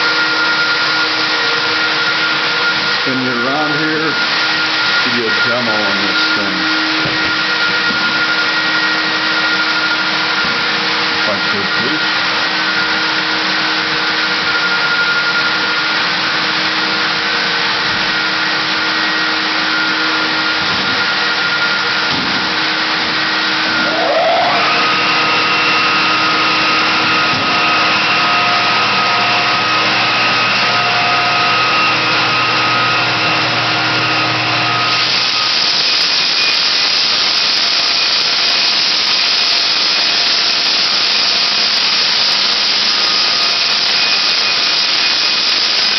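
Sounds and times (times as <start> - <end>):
floor sander motor whine: 0.0 - 45.9
sander hissing on wooden floor: 0.0 - 45.9
vacuum running: 0.0 - 45.9.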